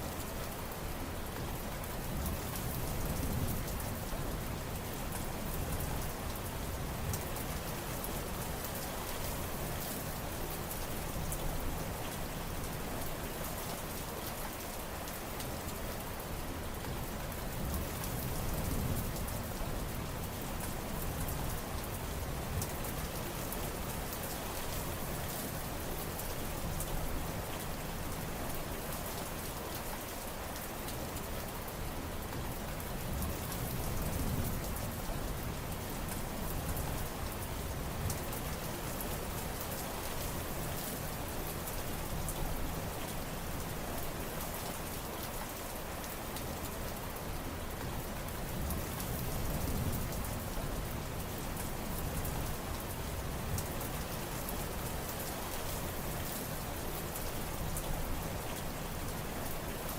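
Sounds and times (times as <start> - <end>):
low rumble of heavier rainfall: 0.0 - 59.9
steady rain falling: 0.0 - 59.9.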